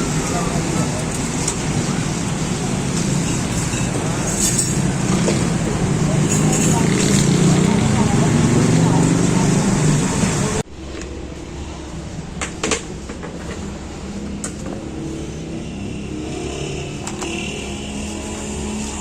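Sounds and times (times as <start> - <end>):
street traffic hum: 0.0 - 19.0.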